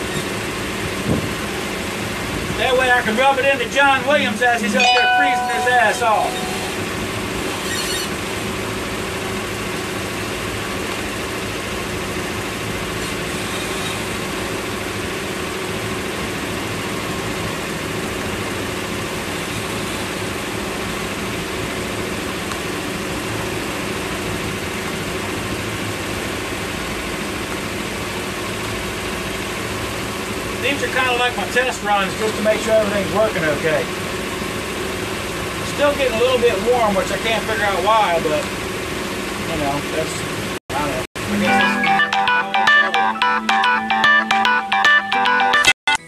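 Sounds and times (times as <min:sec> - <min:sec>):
wind: 0:00.0 - 0:41.5
boat engine running: 0:00.0 - 0:42.5.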